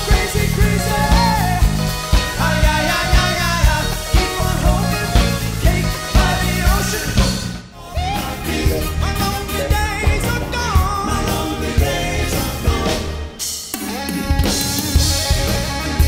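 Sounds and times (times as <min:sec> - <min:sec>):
lead singer singing: 0:00.0 - 0:16.0
live rock band playing: 0:00.0 - 0:16.0.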